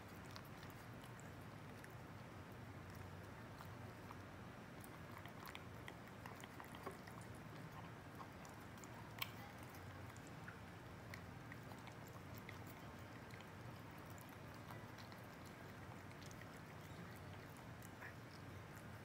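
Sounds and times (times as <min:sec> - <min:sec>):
cats eating wet food: 0:00.0 - 0:19.0.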